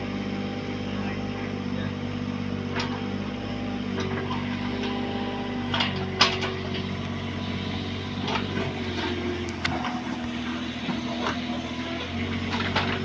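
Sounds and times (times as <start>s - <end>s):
mini excavator diesel engine running: 0.0s - 13.0s.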